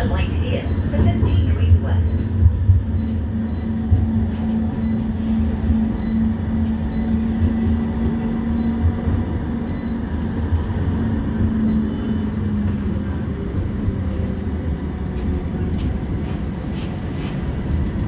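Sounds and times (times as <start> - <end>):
traction equipment hum: 0.0 - 18.0
tram running rumble: 0.0 - 18.0.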